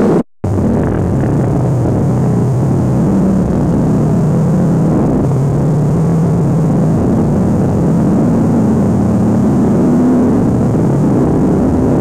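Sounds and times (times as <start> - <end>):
distorted droning rumble: 0.0 - 12.0.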